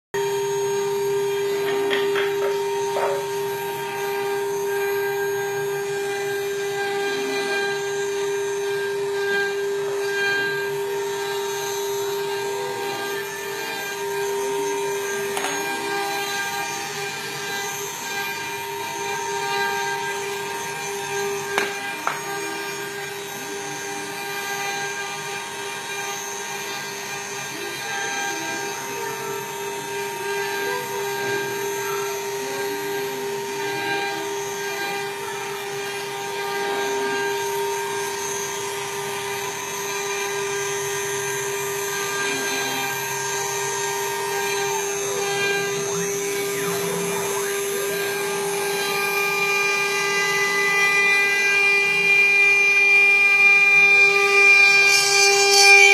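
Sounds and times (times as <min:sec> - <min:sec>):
router spindle motors whining: 0:00.2 - 0:55.9.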